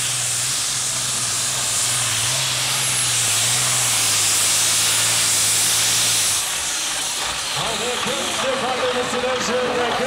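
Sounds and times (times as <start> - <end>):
loud rushing hiss: 0.0 - 8.6
tractor diesel engines at full throttle: 0.0 - 10.0.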